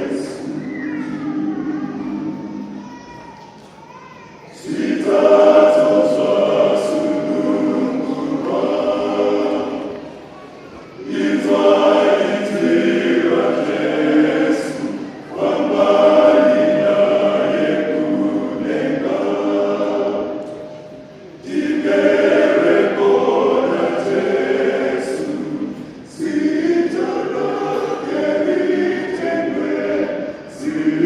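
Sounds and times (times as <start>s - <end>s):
choir singing: 0.0s - 3.7s, 4.3s - 31.0s.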